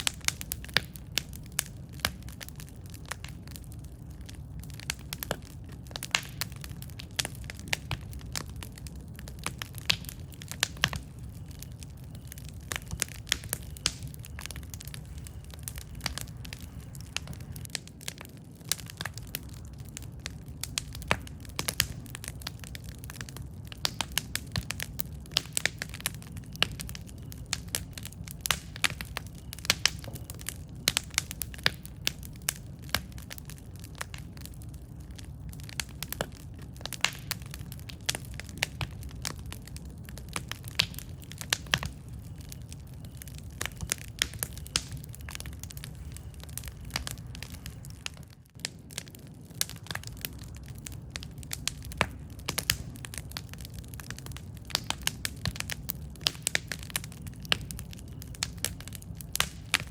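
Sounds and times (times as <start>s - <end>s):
campfire crackles and pops: 0.0s - 59.9s
low rumble of flame: 0.0s - 59.9s.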